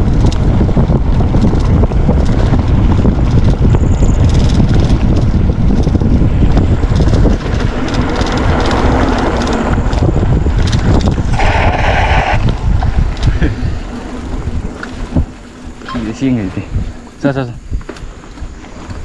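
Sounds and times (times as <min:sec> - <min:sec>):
bike rattling over dirt track: 0:00.0 - 0:19.0
wind buffeting microphone: 0:00.0 - 0:19.0.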